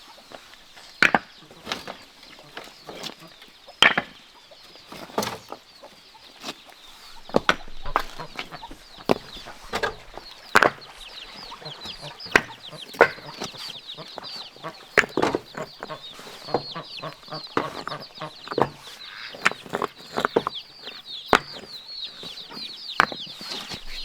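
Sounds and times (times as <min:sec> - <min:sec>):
chickens clucking and chirping: 0:00.0 - 0:24.0.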